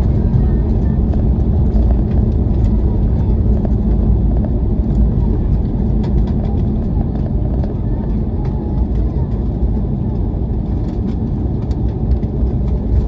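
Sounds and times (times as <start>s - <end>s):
airplane cabin low rumble: 0.0s - 13.0s.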